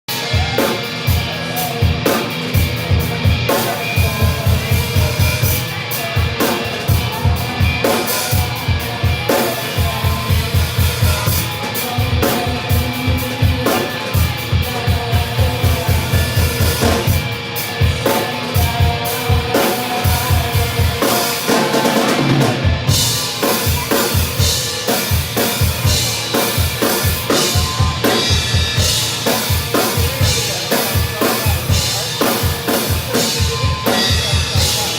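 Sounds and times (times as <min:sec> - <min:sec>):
drum kit played hard: 0:00.1 - 0:34.9
recorded band music: 0:00.1 - 0:34.9.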